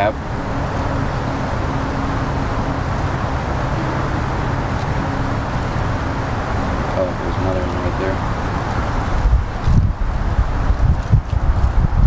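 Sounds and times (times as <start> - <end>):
outdoor background rumble and hiss: 0.0 - 12.0.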